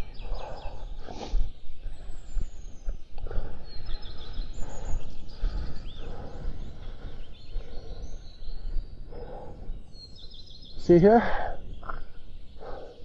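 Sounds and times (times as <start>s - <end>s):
small birds chirping: 0.0s - 13.0s
wind rumbling on microphone: 0.0s - 13.0s.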